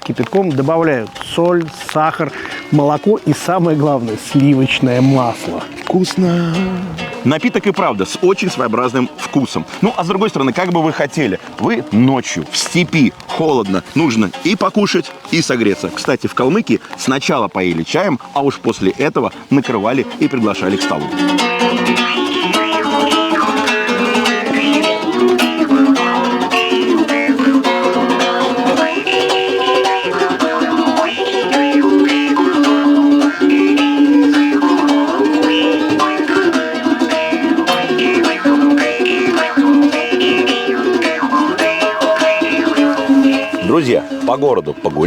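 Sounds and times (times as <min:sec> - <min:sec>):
plucked string instrumental music: 0:00.0 - 0:45.0.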